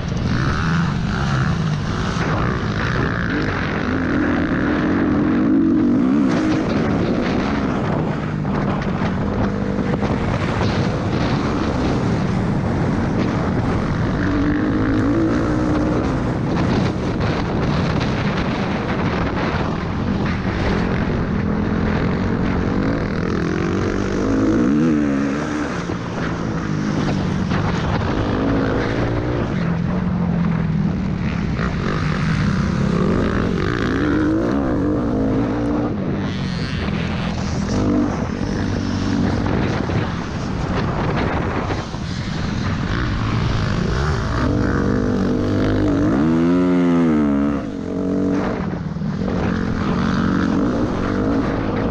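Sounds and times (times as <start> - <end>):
motocross bike engine revving: 0.0 - 51.9
wind on microphone: 0.0 - 51.9.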